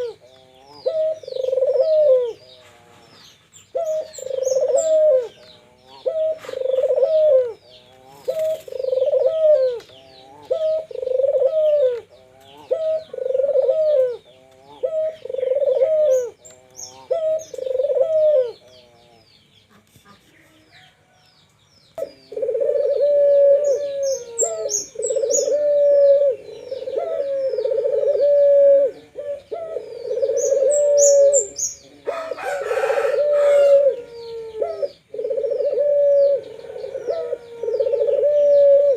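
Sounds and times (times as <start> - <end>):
doves cooing: 0.0 - 19.3, 22.0 - 38.9
small birds chirping: 0.0 - 38.9.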